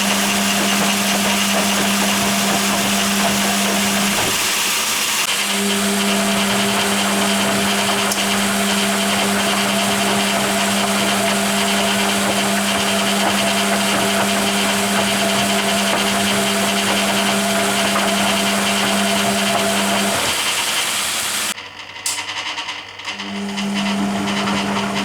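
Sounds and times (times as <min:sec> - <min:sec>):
washing machine drum motor humming: 0:00.0 - 0:21.6, 0:23.2 - 0:25.0.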